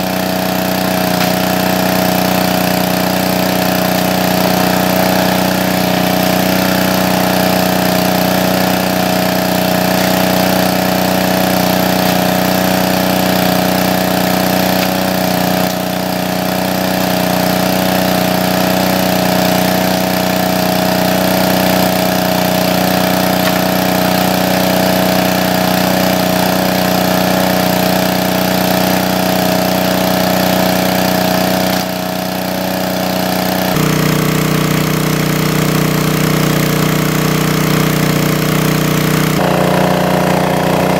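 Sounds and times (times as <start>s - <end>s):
engine-driven water pump running: 0.0s - 40.9s.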